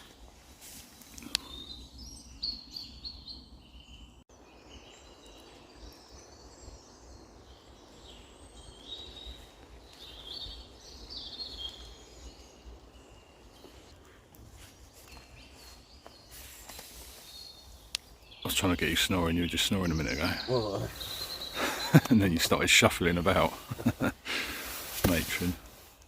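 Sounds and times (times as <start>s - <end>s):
songbirds warbling: 0.8s - 26.0s.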